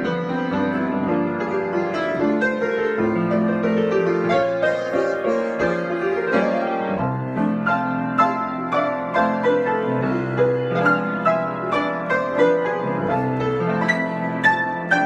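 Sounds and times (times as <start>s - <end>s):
solo piano improvisation: 0.0s - 15.0s.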